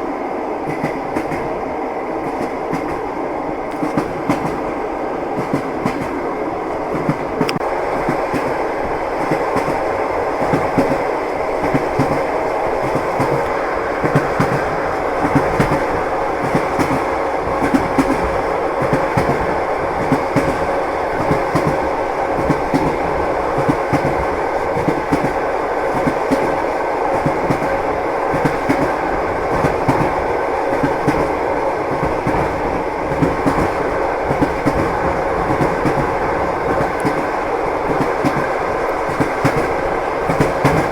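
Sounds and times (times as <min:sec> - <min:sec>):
train wheels clicking over rail joints: 0:02.2 - 0:06.3, 0:06.9 - 0:40.9.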